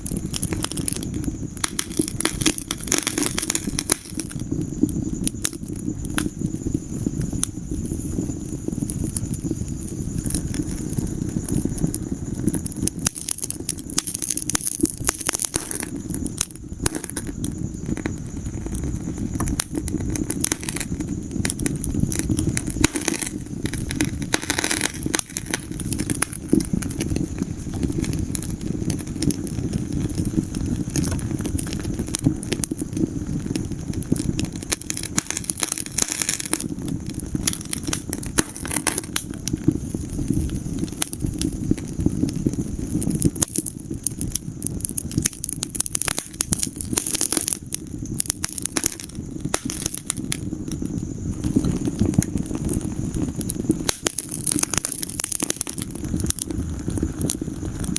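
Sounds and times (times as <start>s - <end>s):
crackling logs: 0.0s - 57.9s
fire burning in fireplace: 0.0s - 57.9s.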